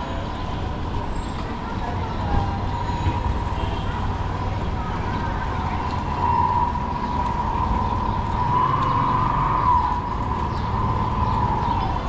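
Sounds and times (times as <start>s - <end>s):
street traffic rumbling: 0.0s - 12.0s.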